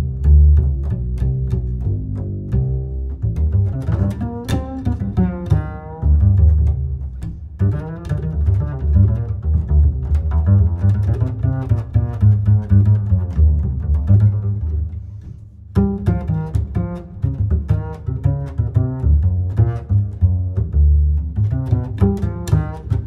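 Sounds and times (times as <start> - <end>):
deep bass line: 0.0 - 23.0
string instruments playing: 0.0 - 23.0.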